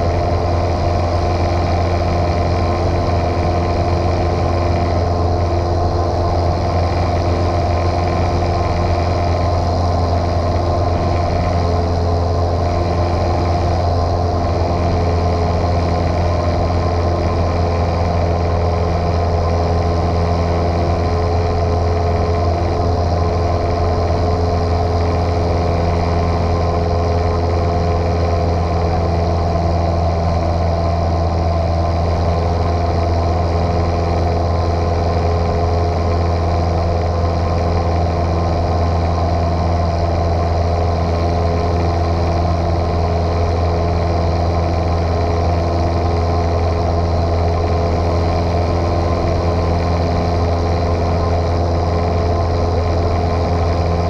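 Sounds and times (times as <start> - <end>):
propeller aircraft engine droning: 0.0 - 54.0.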